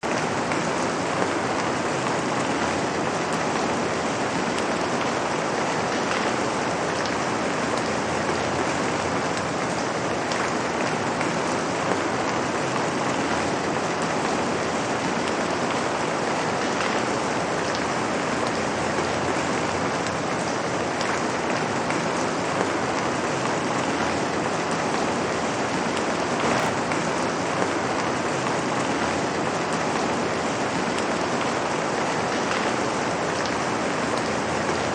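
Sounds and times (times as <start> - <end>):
light rain on pavement: 0.1 - 34.9.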